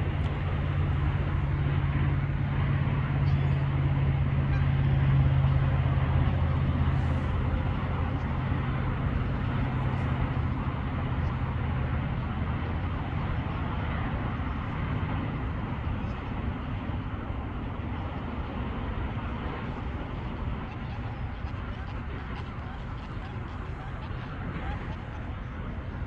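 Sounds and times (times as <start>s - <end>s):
distant traffic: 0.0s - 26.0s
vehicle engine droning: 0.0s - 26.0s.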